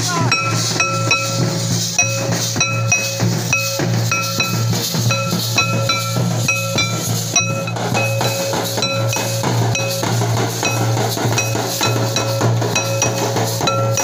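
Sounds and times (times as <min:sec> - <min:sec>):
drums beaten with sticks: 0:00.0 - 0:14.0
metal plate clinking: 0:00.2 - 0:14.0.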